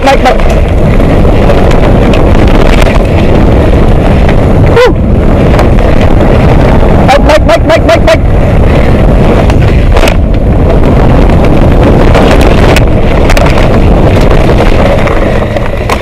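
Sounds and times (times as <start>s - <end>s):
tyre rumble: 0.0s - 7.3s, 8.1s - 16.0s
bike rattling over bumps: 0.0s - 16.0s
wind buffeting microphone: 0.0s - 16.0s.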